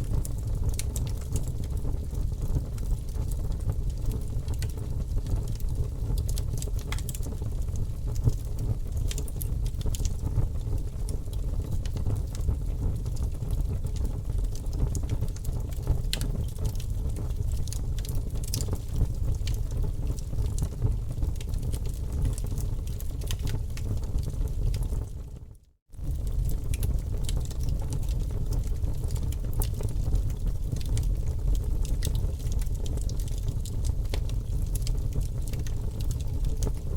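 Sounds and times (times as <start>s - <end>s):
wood fire crackling: 0.0s - 25.4s, 26.0s - 36.9s.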